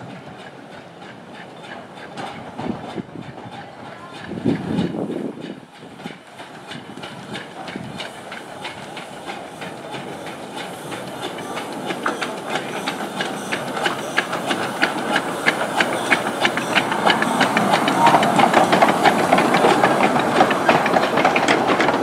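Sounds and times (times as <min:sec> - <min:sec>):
steam locomotive hissing: 0:00.0 - 0:22.0
wheels clicking on track: 0:00.0 - 0:22.0.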